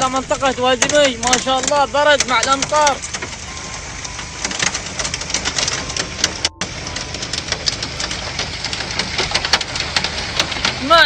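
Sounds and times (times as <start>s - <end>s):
hail clattering on hard surface: 0.0s - 11.0s
rain falling: 0.0s - 11.0s.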